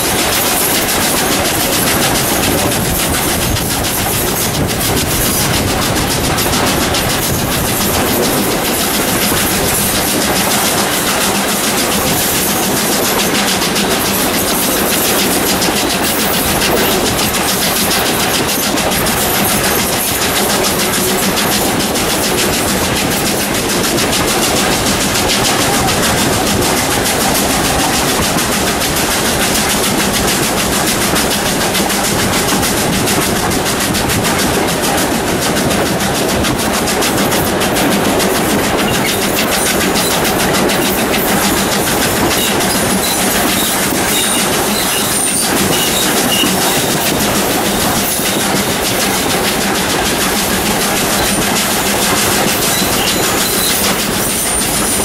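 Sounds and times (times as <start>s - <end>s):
steam locomotive working: 0.0s - 55.0s
train wheels on rails: 0.0s - 55.0s
wind rushing past microphone: 0.0s - 55.0s.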